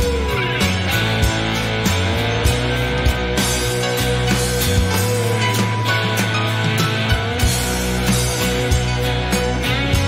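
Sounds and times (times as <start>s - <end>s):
bass guitar: 0.0s - 10.0s
drum kit beat: 0.0s - 10.0s
electric guitar: 0.0s - 10.0s.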